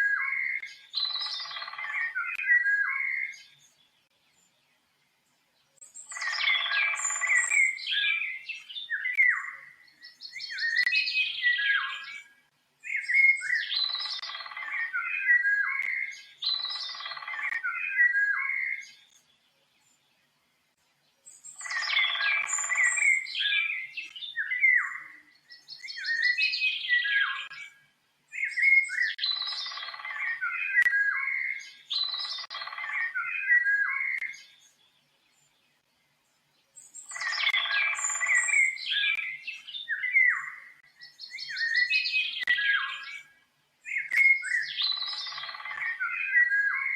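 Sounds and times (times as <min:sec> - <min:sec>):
songbird whistling: 0:00.0 - 0:03.5, 0:06.0 - 0:19.0, 0:21.4 - 0:27.7, 0:28.3 - 0:34.6, 0:36.9 - 0:43.2, 0:43.9 - 0:46.9.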